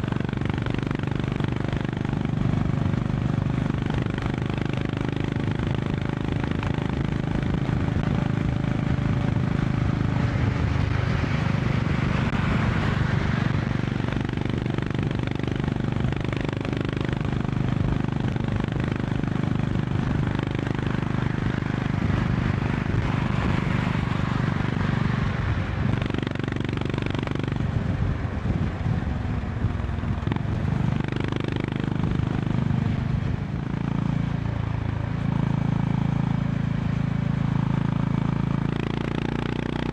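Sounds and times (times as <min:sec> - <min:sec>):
motorcycle engine cruising: 0:00.0 - 0:39.9
wind and road rushing noise: 0:00.0 - 0:39.9.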